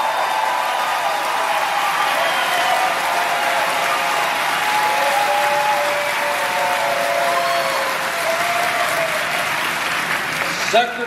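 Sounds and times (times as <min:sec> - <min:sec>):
crowd clapping: 0:00.0 - 0:11.0
crowd shouting and cheering: 0:00.0 - 0:11.0.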